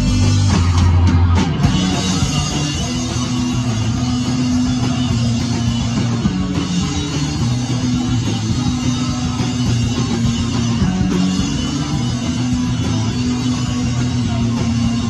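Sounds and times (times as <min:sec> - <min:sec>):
electric guitar: 0:00.0 - 0:15.0
live rock band: 0:00.0 - 0:15.0.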